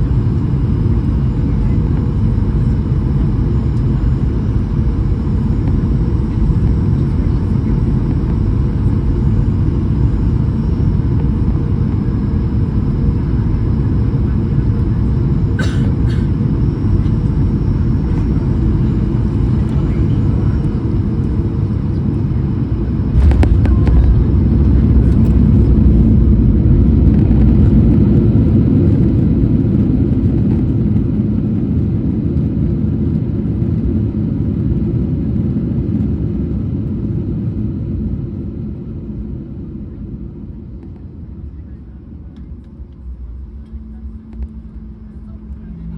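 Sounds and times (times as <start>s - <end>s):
jet airliner rumble: 0.0s - 45.9s.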